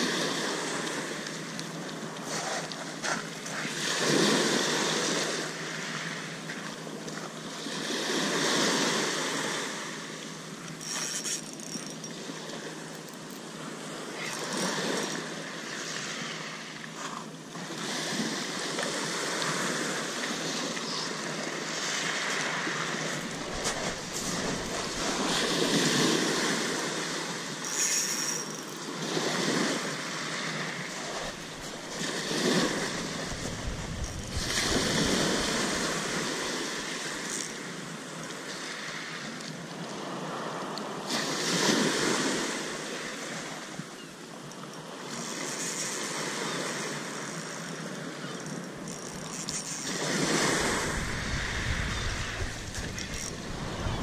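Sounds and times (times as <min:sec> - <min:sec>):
small waves breaking: 0:00.0 - 0:54.0.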